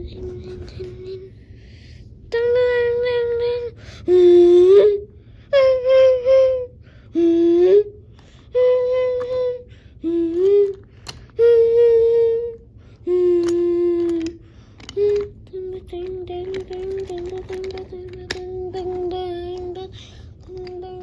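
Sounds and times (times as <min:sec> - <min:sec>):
child singing long notes: 0:02.3 - 0:10.8, 0:11.4 - 0:14.4, 0:15.0 - 0:21.0.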